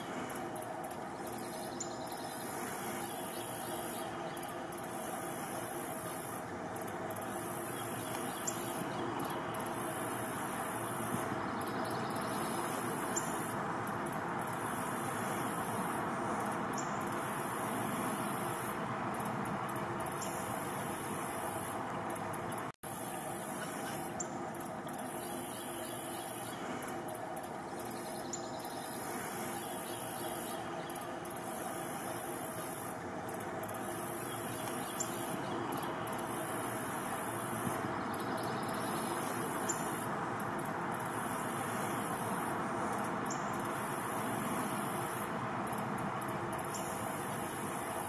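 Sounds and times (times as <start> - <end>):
background hiss: 0.0 - 48.0.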